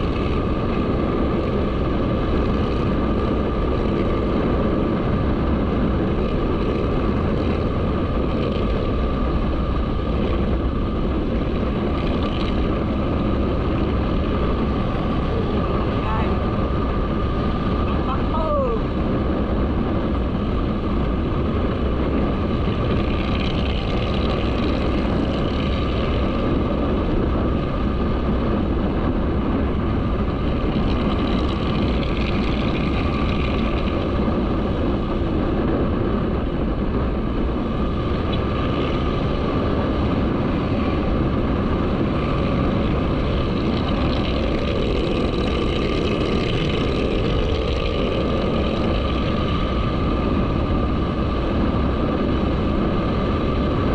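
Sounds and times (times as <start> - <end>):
motorcycle engine running: 0.0 - 53.9
wind on microphone: 0.0 - 53.9.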